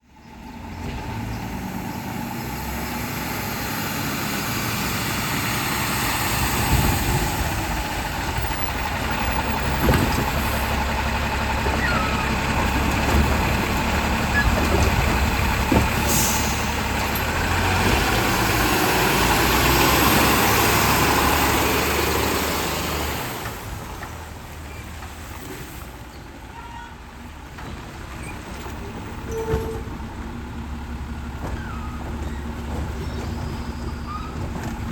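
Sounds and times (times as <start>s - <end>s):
garbage truck running: 0.1s - 34.9s.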